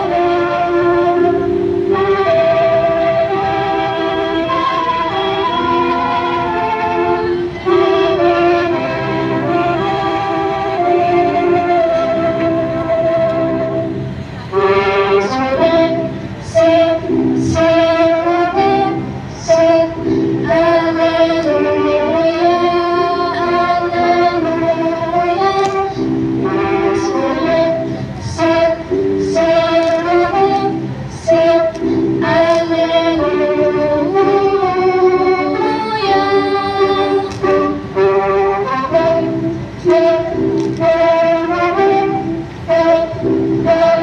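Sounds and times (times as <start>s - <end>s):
girl singing a hymn over loudspeakers: 0.0s - 44.0s.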